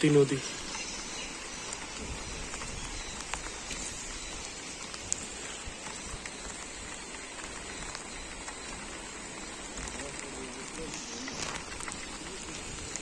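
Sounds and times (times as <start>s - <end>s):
faint ticks: 0.0s - 13.0s.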